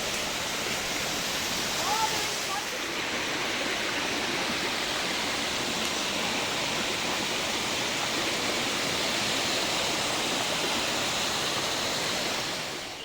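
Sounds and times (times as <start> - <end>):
waterfall and creek rushing: 0.0 - 13.0.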